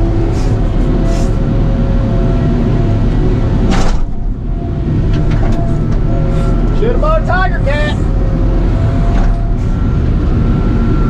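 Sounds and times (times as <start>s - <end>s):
diesel engine and hydraulics running: 0.0s - 11.0s.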